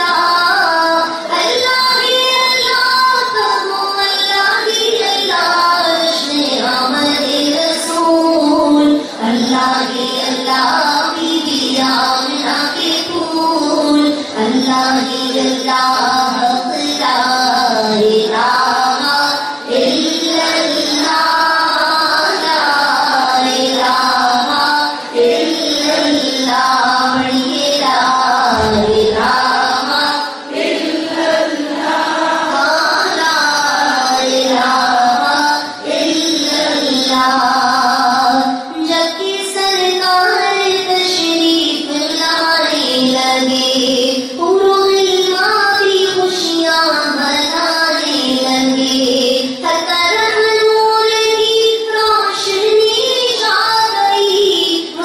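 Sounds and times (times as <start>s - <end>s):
woman singing devotional song: 0.0s - 55.0s.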